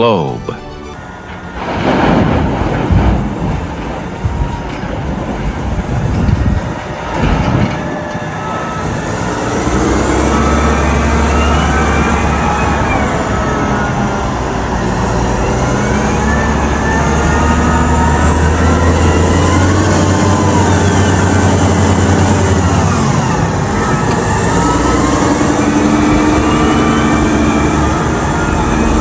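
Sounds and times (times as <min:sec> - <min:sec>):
diesel engine droning under load: 0:00.0 - 0:29.0
rising and falling whines: 0:05.5 - 0:29.0.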